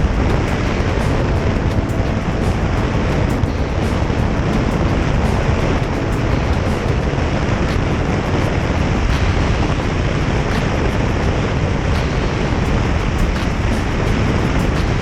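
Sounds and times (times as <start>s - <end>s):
vehicle road noise: 0.0s - 15.0s
wind on microphone: 0.0s - 15.0s.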